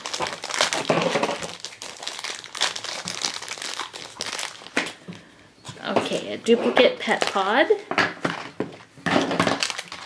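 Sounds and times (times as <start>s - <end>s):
plastic wrapper crackling: 0.0s - 5.0s, 6.9s - 10.0s.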